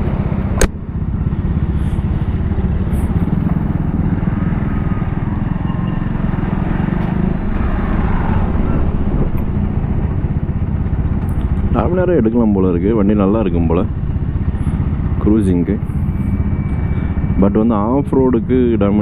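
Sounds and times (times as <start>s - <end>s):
motorcycle engine running: 0.0s - 19.0s
road noise rumble: 0.0s - 19.0s.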